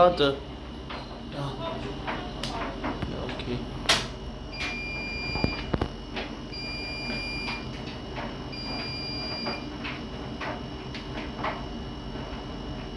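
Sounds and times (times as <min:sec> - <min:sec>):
washing machine beeping: 0:00.0 - 0:12.9.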